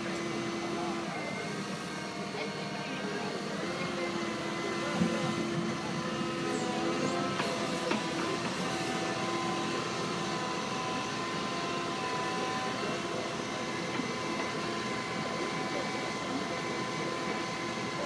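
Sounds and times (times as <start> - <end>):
excavator engine and hydraulics: 0.0 - 18.0
held whine: 0.0 - 18.0.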